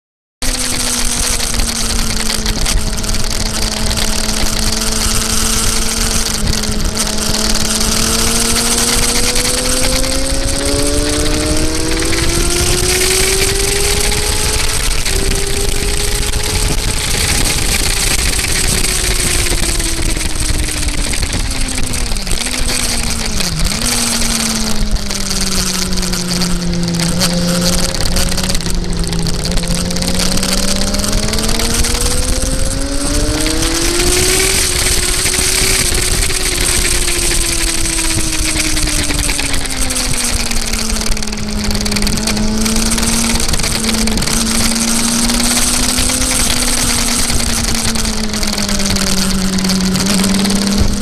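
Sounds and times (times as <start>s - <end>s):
motorcycle engine revving: 0.4s - 51.0s.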